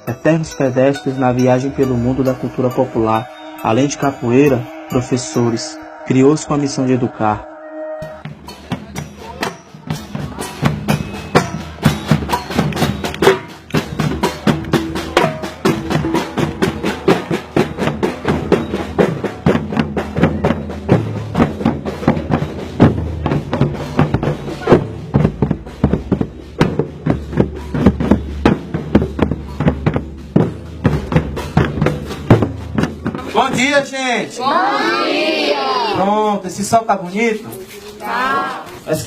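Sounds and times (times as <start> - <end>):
drums playing fast rhythm: 0.0 - 7.0, 8.0 - 34.3.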